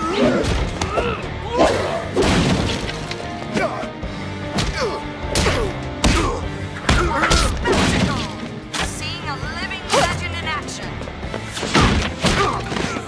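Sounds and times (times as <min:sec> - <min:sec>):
tense action music: 0:00.0 - 0:13.0.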